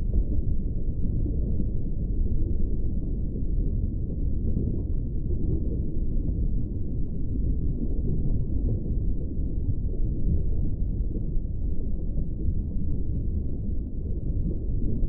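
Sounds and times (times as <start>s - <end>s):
underwater low rumble: 0.0s - 15.0s.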